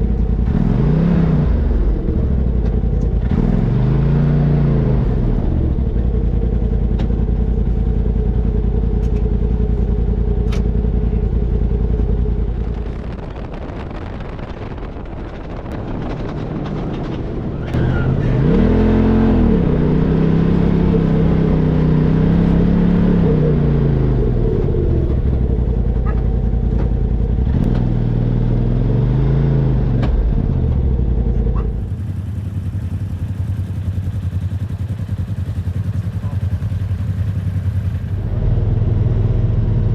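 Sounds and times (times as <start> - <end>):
utv engine revving: 0.0 - 39.9.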